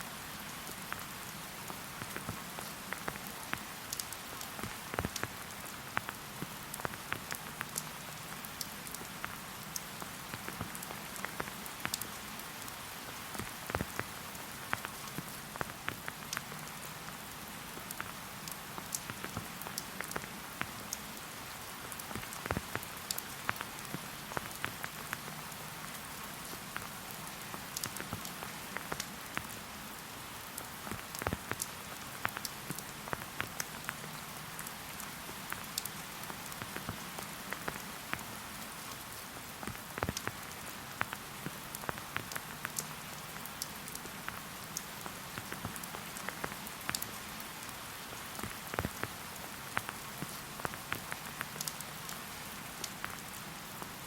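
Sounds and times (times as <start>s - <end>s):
rain falling in forest: 0.0s - 54.0s
raindrops pattering on surfaces: 0.0s - 54.0s.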